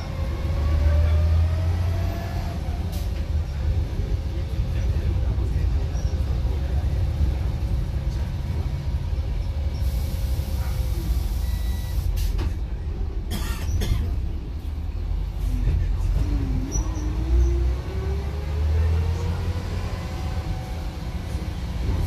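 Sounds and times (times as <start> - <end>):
bus diesel engine rumbling: 0.0 - 22.0.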